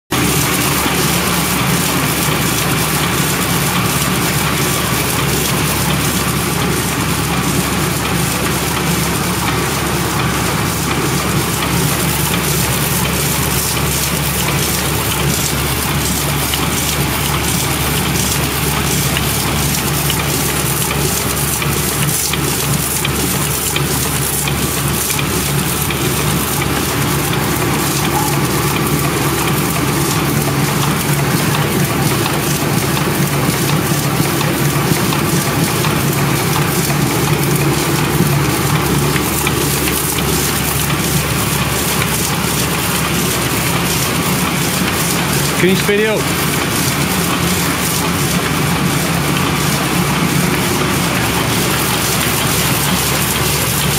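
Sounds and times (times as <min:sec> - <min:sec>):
low machine hum: 0:00.1 - 0:53.9
printing press clattering: 0:00.1 - 0:53.9.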